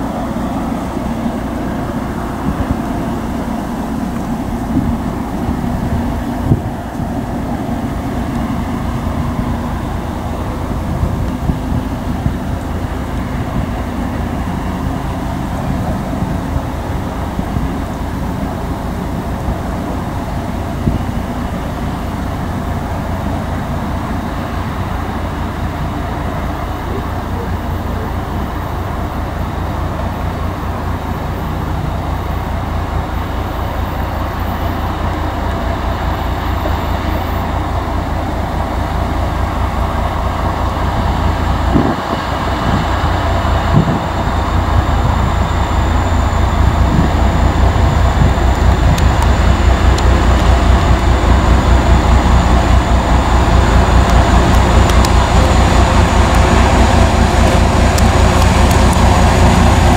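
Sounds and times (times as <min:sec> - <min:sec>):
diesel locomotive engine throbbing: 0:00.0 - 0:59.9
wheels on rails: 0:00.0 - 0:59.9.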